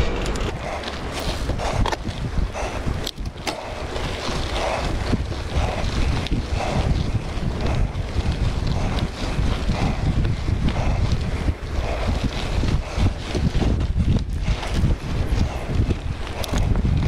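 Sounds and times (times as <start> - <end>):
bike clicks and rattles: 0.0 - 17.0
tyres crunching on gravel: 0.0 - 17.0
wind rumbling on microphone: 0.0 - 17.0.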